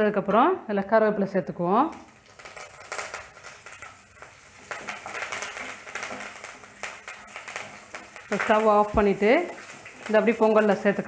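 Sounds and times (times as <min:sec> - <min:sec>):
frying in a pan sizzling: 0:01.8 - 0:11.0
wooden spatula stirring: 0:02.0 - 0:11.0.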